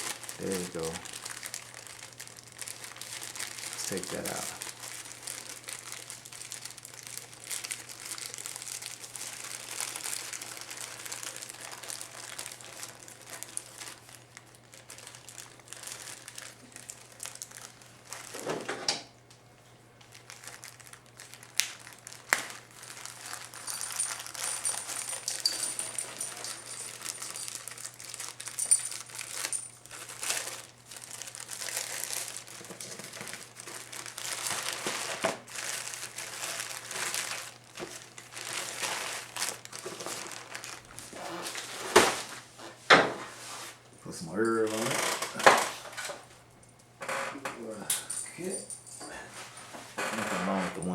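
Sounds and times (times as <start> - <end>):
plastic bags crinkling: 0.0 - 18.8, 20.0 - 42.8, 44.4 - 46.3.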